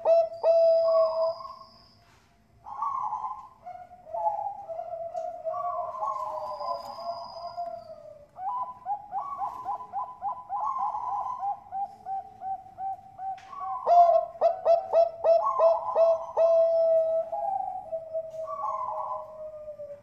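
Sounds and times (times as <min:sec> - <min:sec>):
doves cooing: 0:00.0 - 0:01.6, 0:02.6 - 0:20.0.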